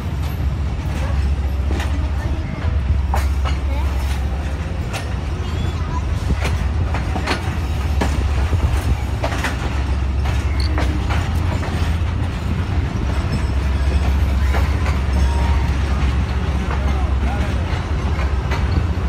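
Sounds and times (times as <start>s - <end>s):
train rumbling: 0.0s - 19.0s
wheels clicking over rail joints: 0.1s - 19.0s.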